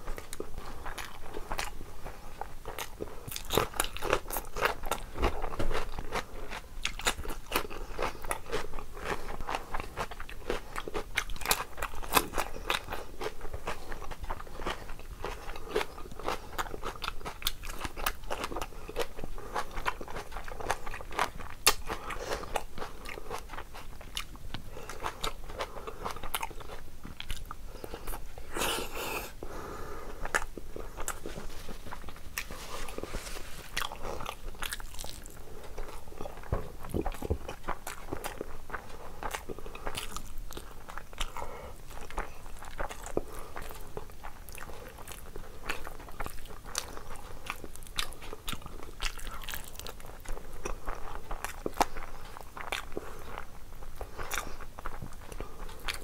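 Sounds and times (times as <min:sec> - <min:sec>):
person chewing with wet smacks: 0:00.0 - 0:56.0.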